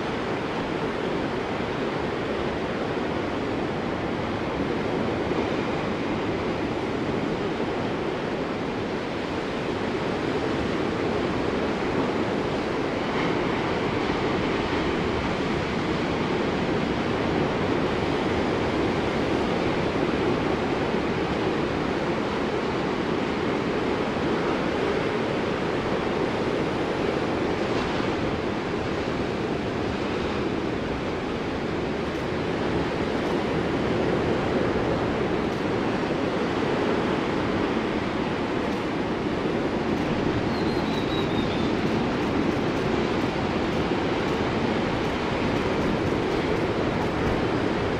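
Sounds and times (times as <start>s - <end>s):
ocean waves on sandy beach: 0.0s - 47.9s.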